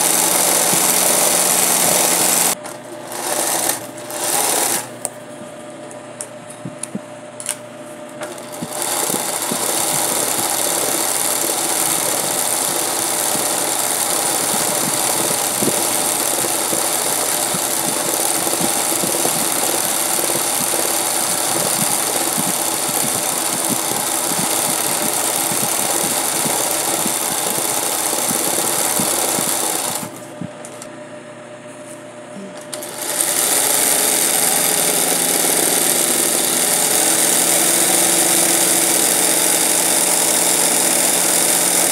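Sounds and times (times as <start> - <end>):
sewing machine running: 0.0 - 5.0, 8.2 - 30.2, 32.7 - 41.9.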